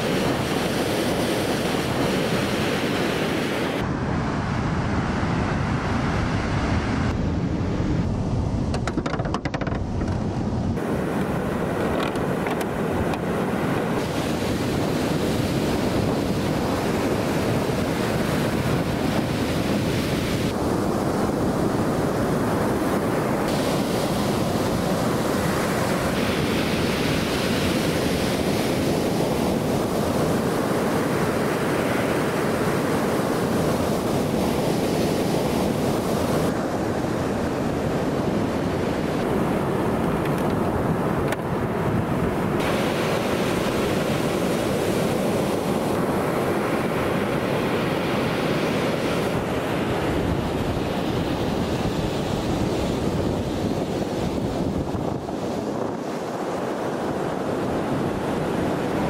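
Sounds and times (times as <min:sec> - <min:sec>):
ocean surf washing on beach: 0:00.0 - 0:59.0
wind blowing across microphone: 0:00.0 - 0:59.0.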